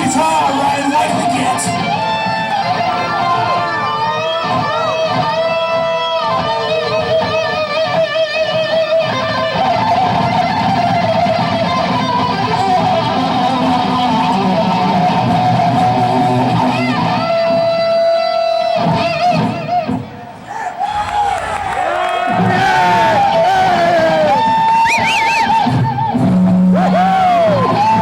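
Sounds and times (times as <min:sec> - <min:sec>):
electric guitar bent notes: 0:00.0 - 0:18.1, 0:18.7 - 0:28.0
bass guitar: 0:00.0 - 0:20.2, 0:21.0 - 0:28.0.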